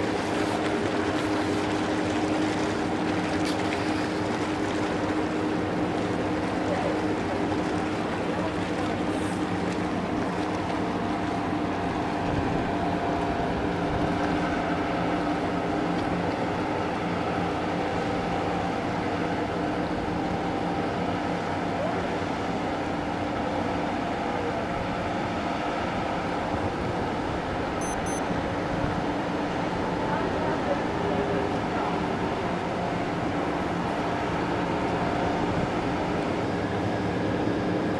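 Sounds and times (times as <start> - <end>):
diesel engines droning: 0.0 - 37.9.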